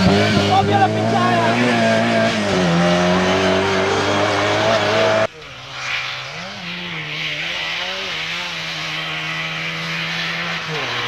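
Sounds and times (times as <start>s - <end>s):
quieter engine note wavering: 0.0s - 11.0s
race car engine at high revs: 0.0s - 11.0s.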